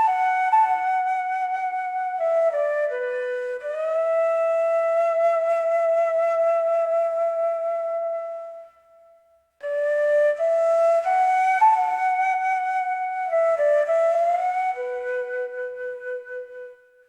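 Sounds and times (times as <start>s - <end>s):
bamboo flute slow melody: 0.0s - 17.0s.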